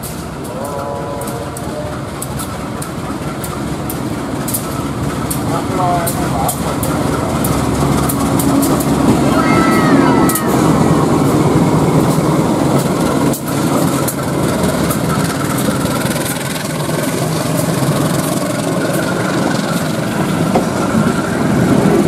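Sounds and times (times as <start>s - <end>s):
diesel locomotive engine running: 0.0s - 22.0s
wheel clicks on track: 0.0s - 22.0s.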